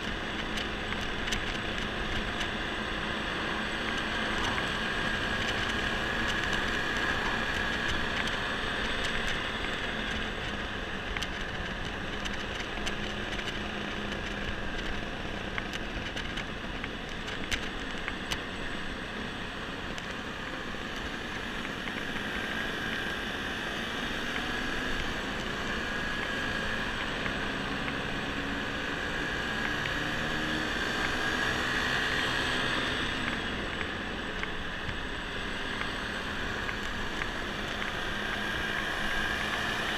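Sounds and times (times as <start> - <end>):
road noise: 0.0 - 39.9
scooter engine running: 0.0 - 39.9
wind: 0.0 - 39.9.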